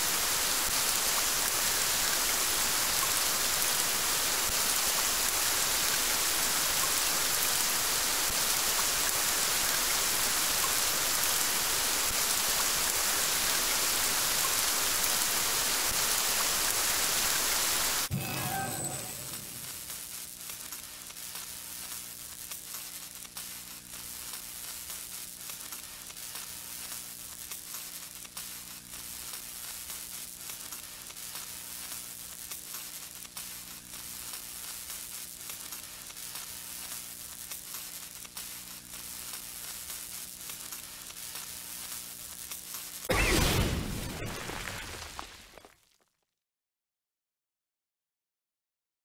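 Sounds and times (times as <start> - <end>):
electric sizzling crackle: 0.0 - 45.7.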